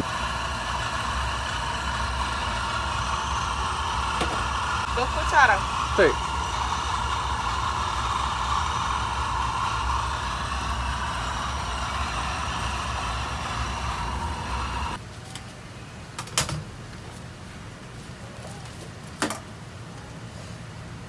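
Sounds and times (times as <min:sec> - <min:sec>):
mechanical hum with hiss: 0:00.0 - 0:21.0.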